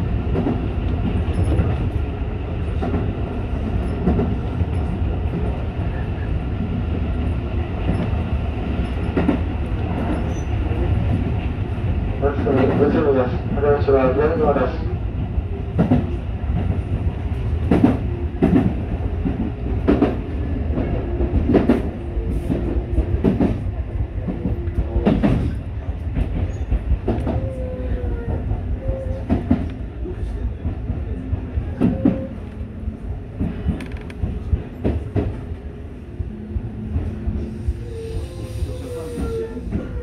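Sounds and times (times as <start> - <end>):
electric train rumbling: 0.0 - 40.0.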